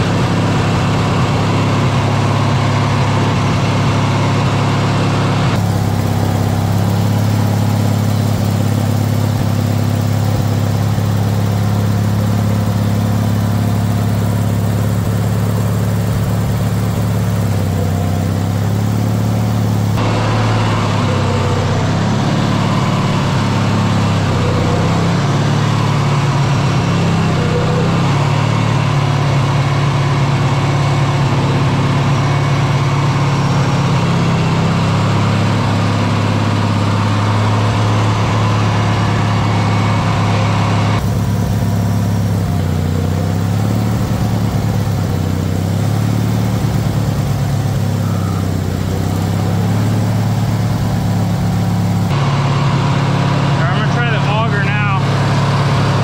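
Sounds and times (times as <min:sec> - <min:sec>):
garden tractor engine running: 0:00.0 - 0:56.0.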